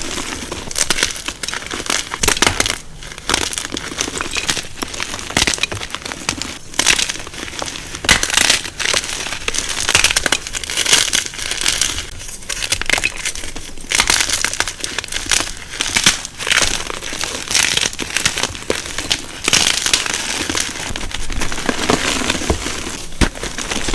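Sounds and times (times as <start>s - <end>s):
chalk crunching and crackling: 0.0s - 23.9s.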